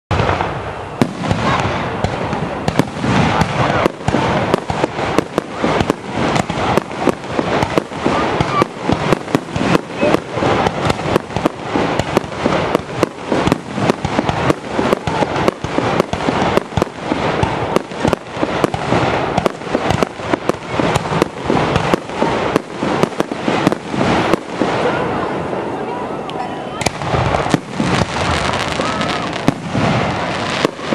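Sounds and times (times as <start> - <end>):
fireworks bursting overhead: 0.1 - 30.9.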